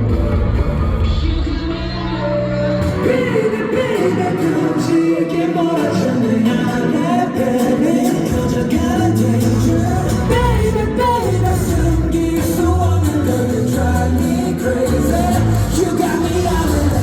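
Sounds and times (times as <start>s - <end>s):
amplified pop backing track: 0.0s - 17.0s
man singing: 1.0s - 17.0s.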